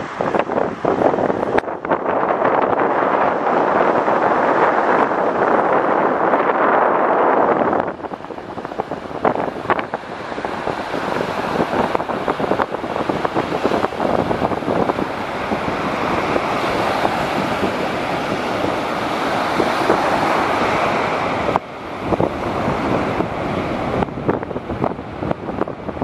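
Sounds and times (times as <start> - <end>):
waves breaking on beach: 0.0 - 26.0
wind buffeting microphone: 0.0 - 26.0.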